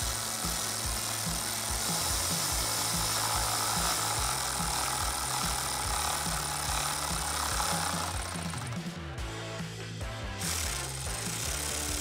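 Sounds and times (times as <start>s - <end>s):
ratchet tightening a bolt: 0.0s - 8.9s, 10.4s - 12.0s
background music with steady beat: 0.0s - 12.0s.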